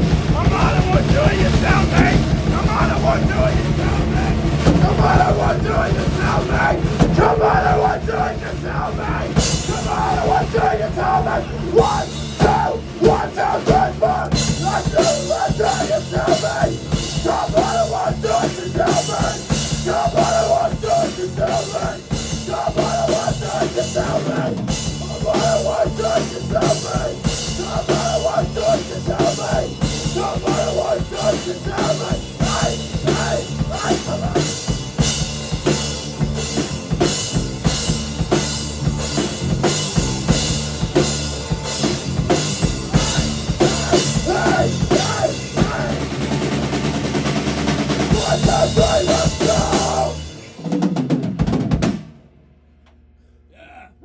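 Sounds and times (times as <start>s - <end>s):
live rock band playing: 0.0s - 52.2s
pounding drum kit: 0.0s - 52.5s.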